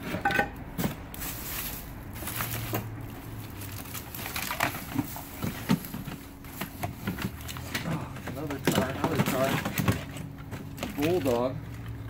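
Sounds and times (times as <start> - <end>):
clothes and plastic bags rustling: 0.0 - 12.0
items knocking together: 2.2 - 11.9.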